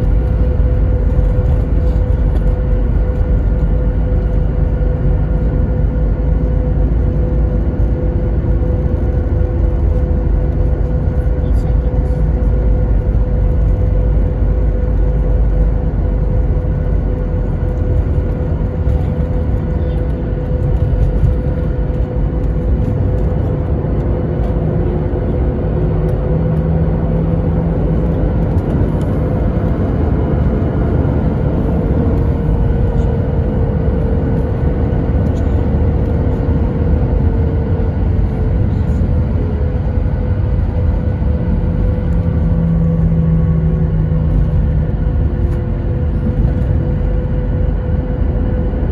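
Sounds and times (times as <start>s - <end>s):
constant hum tone: 0.0s - 48.9s
jet cabin engine rumble: 0.0s - 48.9s.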